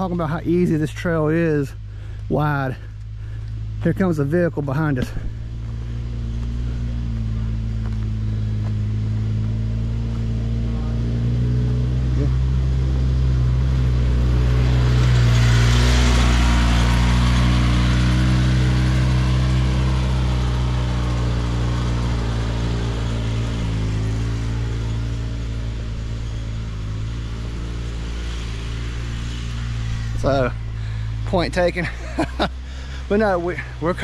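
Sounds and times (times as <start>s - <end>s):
atv engine passing: 0.0s - 34.0s.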